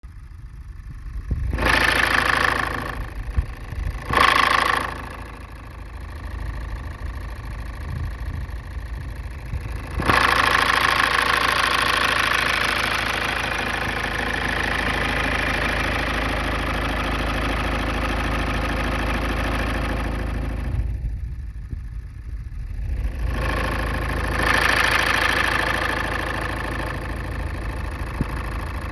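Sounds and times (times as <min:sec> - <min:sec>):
turbocharged engine revving: 0:00.1 - 0:21.2, 0:22.4 - 0:28.9.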